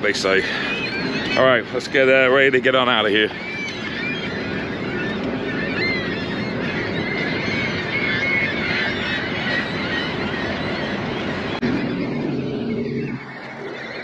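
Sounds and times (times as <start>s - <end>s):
highway traffic rumble: 0.0s - 14.0s
waterbirds calling: 0.0s - 14.0s.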